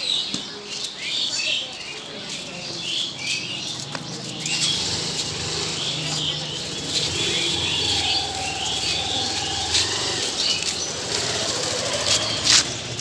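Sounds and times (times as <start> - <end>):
faint voices: 0.0 - 13.0
small birds chirping: 0.0 - 13.0.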